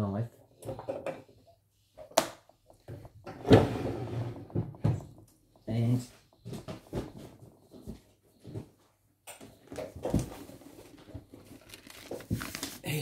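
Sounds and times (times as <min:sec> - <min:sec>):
rustling at a desk: 0:00.3 - 0:13.0.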